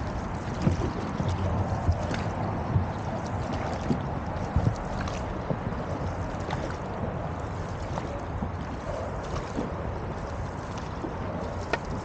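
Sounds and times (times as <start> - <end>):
paddles splashing: 0.0 - 12.0
water sloshing and lapping: 0.0 - 12.0
wind rumble on microphone: 0.0 - 12.0.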